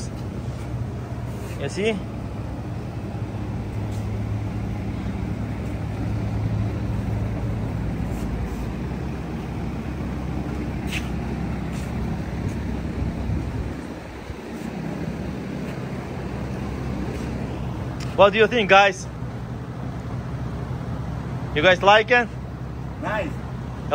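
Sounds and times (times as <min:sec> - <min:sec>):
vehicle engine humming: 0:00.0 - 0:23.9.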